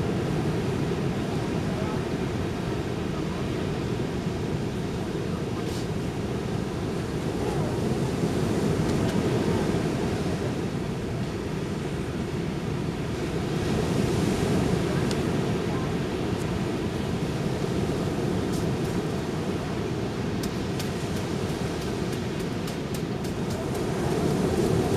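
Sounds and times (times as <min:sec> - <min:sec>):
ocean surf on beach: 0:00.0 - 0:24.9.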